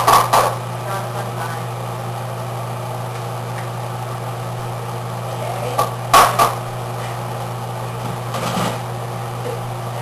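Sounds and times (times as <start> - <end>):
air conditioner hum: 0.0 - 10.0.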